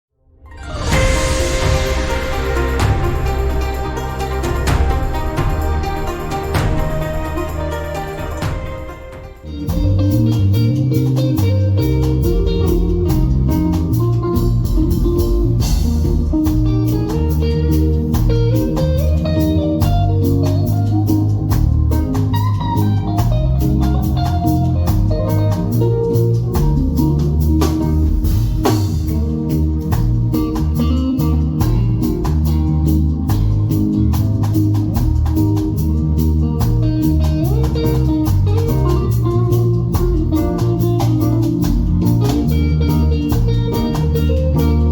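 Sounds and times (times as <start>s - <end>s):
band playing instrumental: 0.6s - 44.9s.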